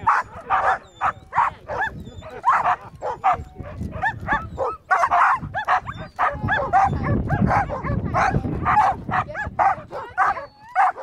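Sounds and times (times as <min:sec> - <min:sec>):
dogs barking and yelping: 0:00.0 - 0:11.0.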